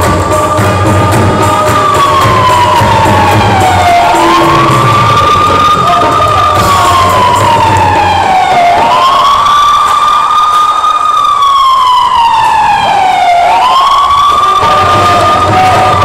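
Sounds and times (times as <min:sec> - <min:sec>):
police siren wailing: 0:00.0 - 0:16.0.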